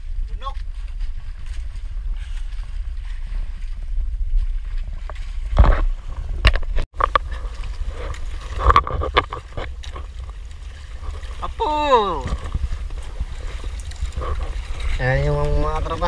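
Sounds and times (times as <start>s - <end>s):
knocks and clatters on boat: 0.0s - 16.0s
wind and sea rumble: 0.0s - 16.0s.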